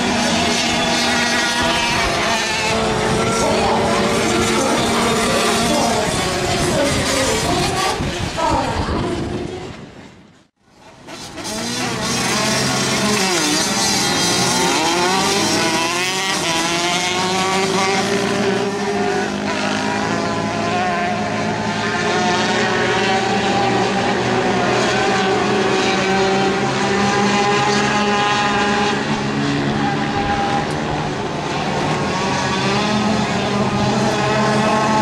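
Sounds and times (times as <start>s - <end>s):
motorcycles racing: 0.0s - 35.0s.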